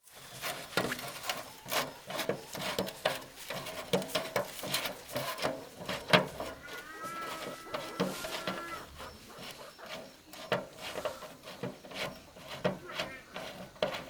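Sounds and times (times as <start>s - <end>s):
scraping and rubbing strokes: 0.0s - 14.0s.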